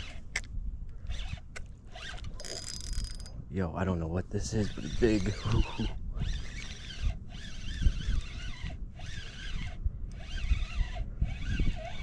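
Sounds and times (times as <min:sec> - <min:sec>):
fishing reel whirring: 0:01.0 - 0:03.3, 0:04.4 - 0:12.0.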